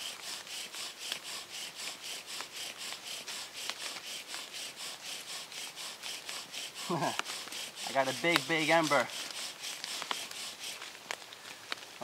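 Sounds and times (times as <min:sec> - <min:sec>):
bow drill spindle rasping: 0:00.0 - 0:10.9.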